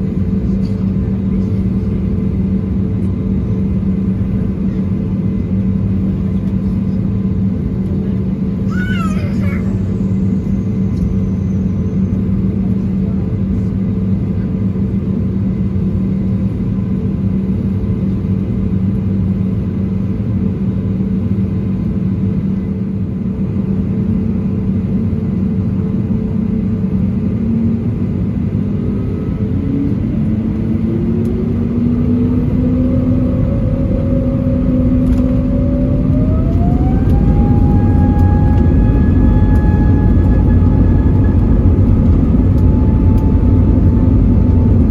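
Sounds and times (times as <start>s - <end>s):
airplane cabin hum: 0.0s - 44.9s
jet engine whine: 0.0s - 44.9s.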